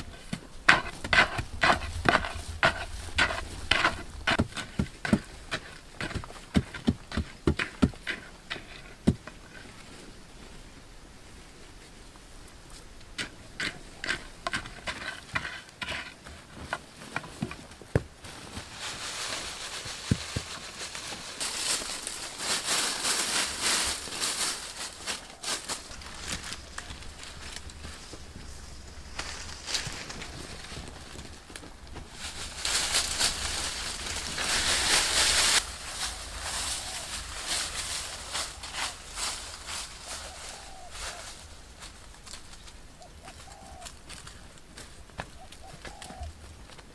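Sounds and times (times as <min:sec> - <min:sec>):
dry leaves rustling and crackling: 0:00.0 - 0:07.4, 0:13.7 - 0:46.9
hoe scraping soil: 0:00.0 - 0:10.2, 0:13.2 - 0:42.6
loose dirt hissing: 0:00.0 - 0:17.3, 0:18.1 - 0:44.9.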